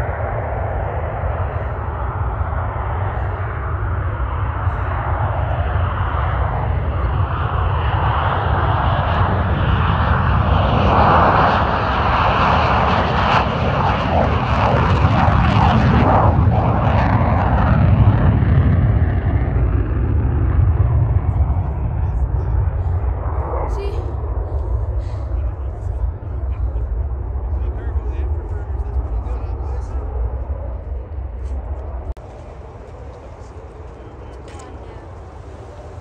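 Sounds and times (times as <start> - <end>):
jet engines roaring on takeoff: 0.0 - 36.0.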